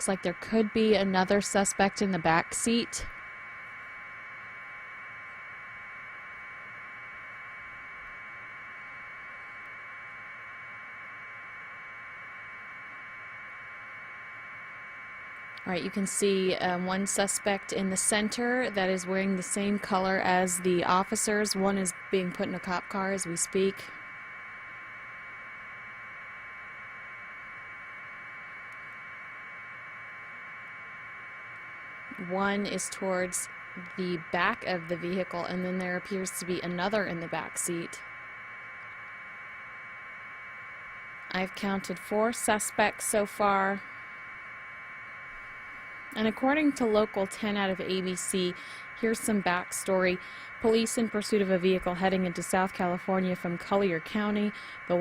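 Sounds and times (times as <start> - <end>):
static hiss: 0.0 - 55.0.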